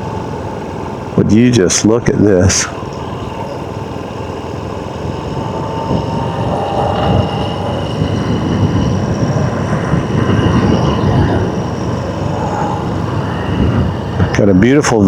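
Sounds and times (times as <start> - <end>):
dirt bike engine rumble: 0.0 - 15.0
wind on microphone: 0.0 - 15.0.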